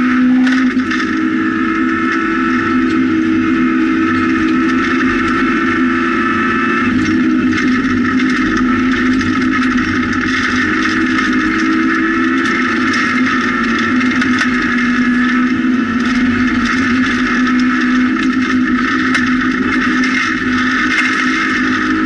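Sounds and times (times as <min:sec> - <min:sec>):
car engine revving high: 0:00.0 - 0:22.0
gravel clicks and tyre noise: 0:00.0 - 0:22.0.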